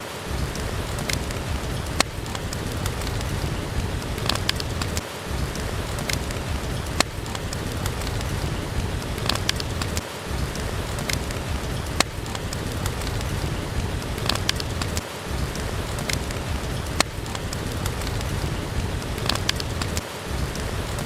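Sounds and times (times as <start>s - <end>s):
steady rain falling: 0.0s - 21.0s
wood fire crackling and popping: 0.0s - 21.0s.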